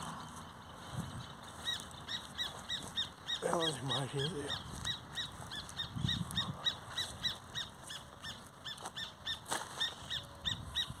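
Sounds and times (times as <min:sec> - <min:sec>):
bird calling repeated notes: 0:00.3 - 0:11.0.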